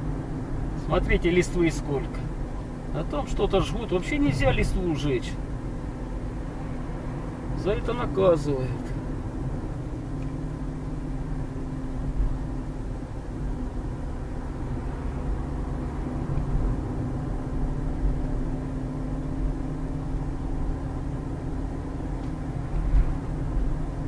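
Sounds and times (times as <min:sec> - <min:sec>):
car engine drone: 0:00.0 - 0:24.0
road rumble: 0:00.0 - 0:24.0.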